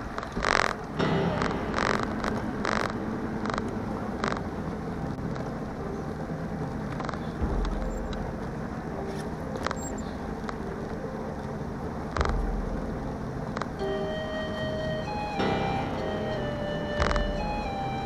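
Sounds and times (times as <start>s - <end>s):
low thumps: 0.4s - 10.7s, 12.0s - 18.0s.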